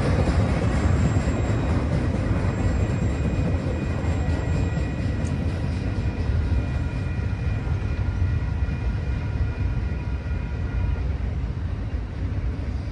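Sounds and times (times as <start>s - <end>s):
train rumbling past: 0.0s - 12.9s.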